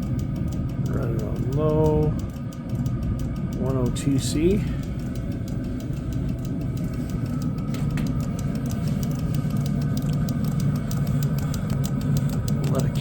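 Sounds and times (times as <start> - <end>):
faint rapid ticking: 0.0 - 13.0
heater burner and fan rumble: 0.0 - 13.0.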